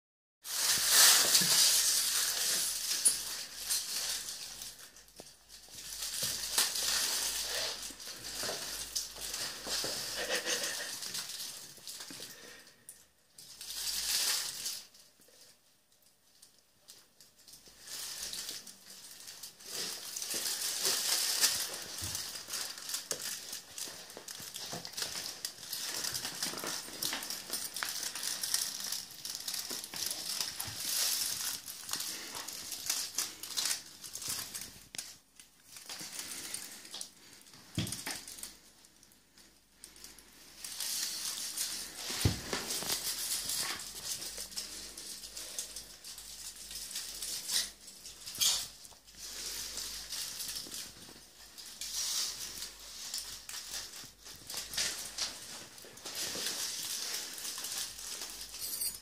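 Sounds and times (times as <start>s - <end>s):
aluminium foil crinkling: 0.4s - 59.0s.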